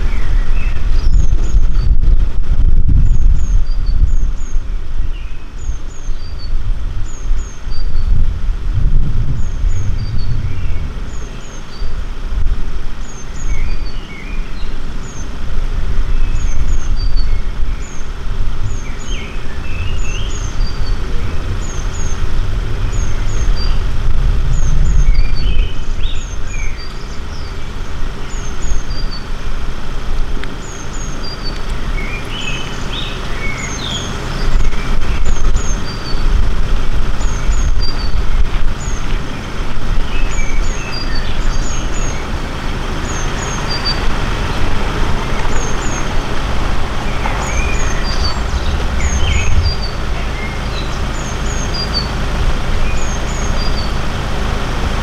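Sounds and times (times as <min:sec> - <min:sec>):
birdsong: 0:00.0 - 0:55.0
continuous low rumble: 0:00.0 - 0:55.0.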